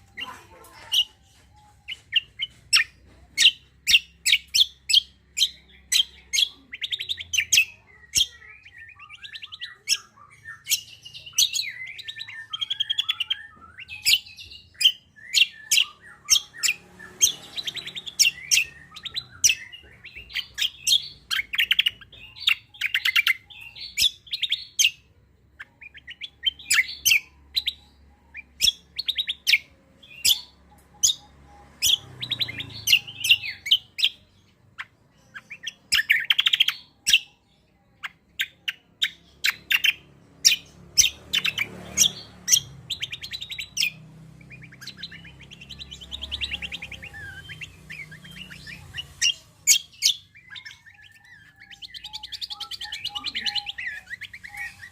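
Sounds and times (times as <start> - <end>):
songbird chirping and warbling: 0.0 - 54.9.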